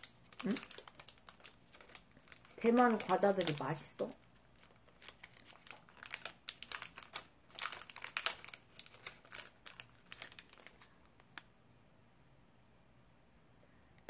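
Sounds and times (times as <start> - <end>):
foil wrapper crinkling: 0.0 - 11.5.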